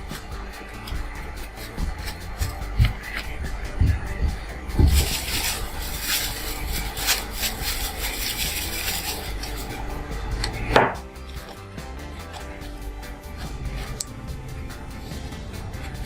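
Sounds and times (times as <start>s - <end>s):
powder scraped in a bowl: 0.1s - 4.0s, 4.6s - 14.1s.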